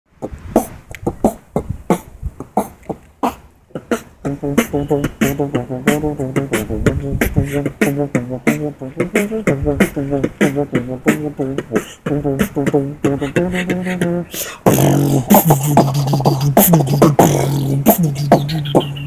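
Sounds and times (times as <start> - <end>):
voiced bass line: 0.1 - 19.0
beatboxing drum sounds: 0.2 - 19.0.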